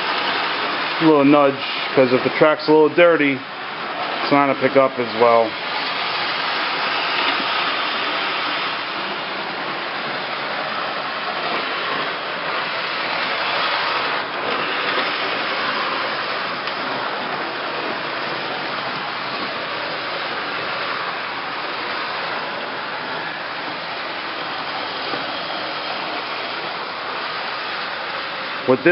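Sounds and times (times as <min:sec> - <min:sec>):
model trains rolling on track: 0:00.0 - 0:28.9.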